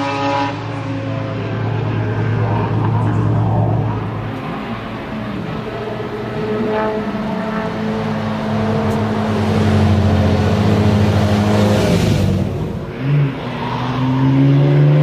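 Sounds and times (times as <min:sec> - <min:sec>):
race car engine passing: 0:00.0 - 0:15.0.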